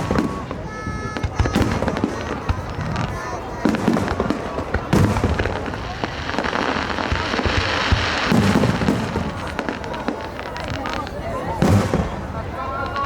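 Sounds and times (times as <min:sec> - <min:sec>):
dense firework crackling: 0:00.0 - 0:13.0
firework bangs: 0:00.0 - 0:13.0.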